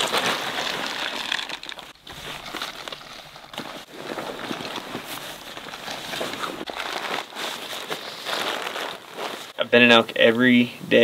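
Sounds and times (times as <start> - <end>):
nylon gear rustling: 0.0 - 10.4.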